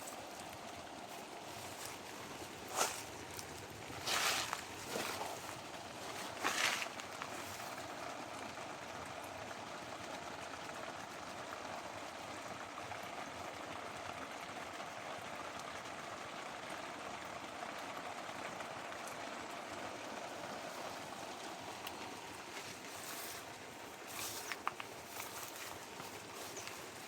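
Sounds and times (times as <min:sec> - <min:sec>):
sprinkler water pattering: 0:00.0 - 0:27.0.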